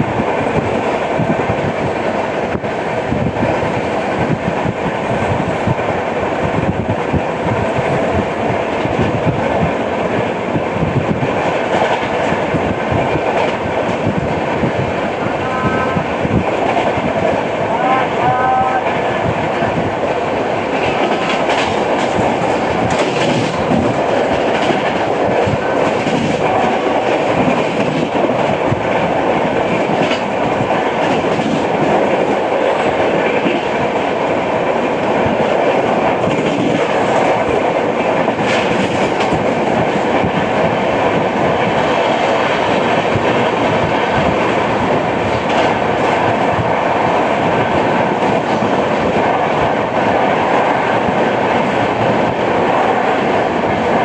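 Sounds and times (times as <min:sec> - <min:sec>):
train wheels rumbling on rail: 0:00.0 - 0:54.0
wheels clickety-clack over joints: 0:06.7 - 0:14.9, 0:18.3 - 0:54.0.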